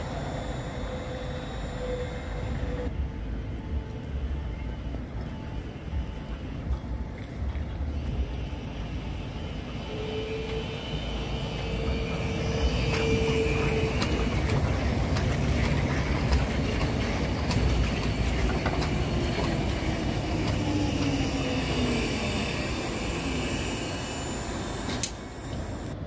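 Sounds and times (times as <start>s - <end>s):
clicks of passing tram cars: 0.0s - 26.0s
tram motor whine: 0.0s - 26.0s
tram rumble: 0.0s - 26.0s.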